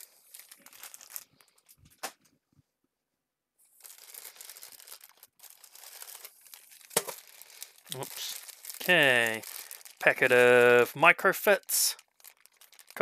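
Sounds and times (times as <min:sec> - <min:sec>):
plastic bags crinkling: 0:00.0 - 0:01.8, 0:03.7 - 0:13.0.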